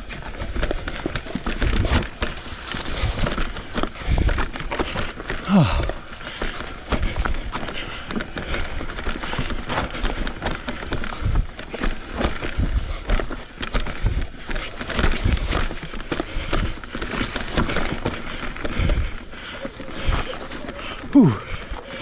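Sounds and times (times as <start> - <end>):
mountain bike rattling over trail: 0.0 - 22.0.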